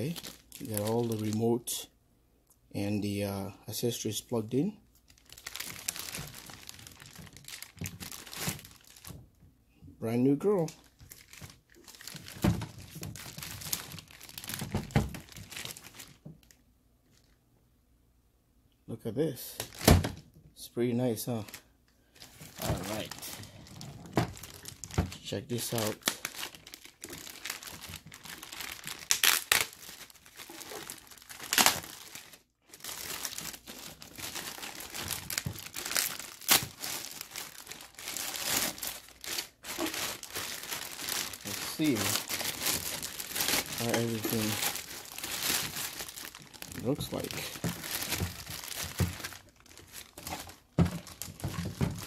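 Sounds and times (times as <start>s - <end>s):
plastic bag crinkling: 0.0s - 1.7s, 4.9s - 9.2s, 10.5s - 17.4s, 21.3s - 52.0s.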